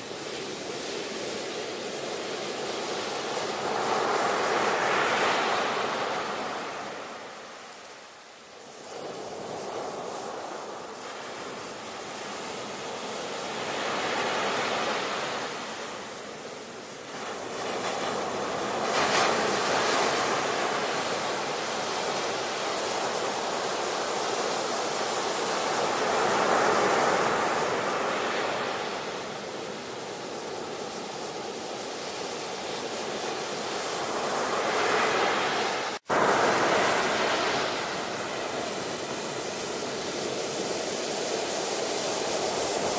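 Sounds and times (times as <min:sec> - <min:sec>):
ocean waves breaking: 0:00.0 - 0:07.8, 0:08.6 - 0:42.9.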